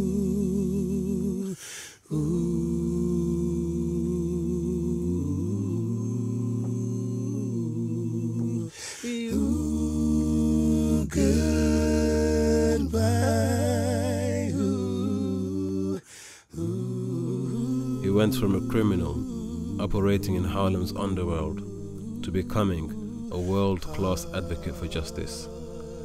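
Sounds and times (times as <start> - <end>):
a cappella singing: 0.0 - 26.0.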